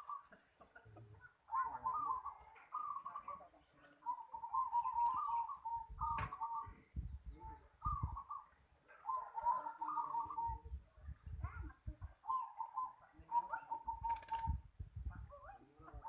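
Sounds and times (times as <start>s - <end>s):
dove cooing: 0.0s - 6.9s, 7.6s - 16.0s.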